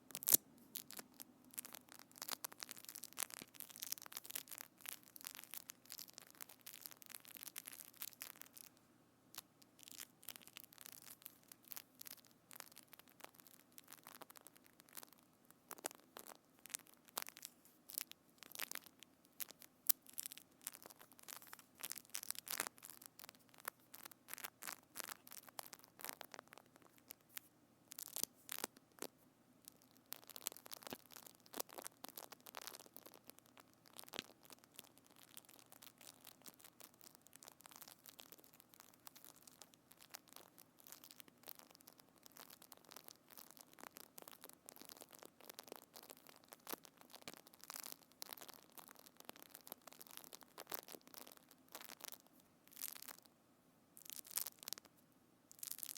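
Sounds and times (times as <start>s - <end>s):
slime crackling and popping: 0.0s - 53.3s, 54.0s - 55.9s.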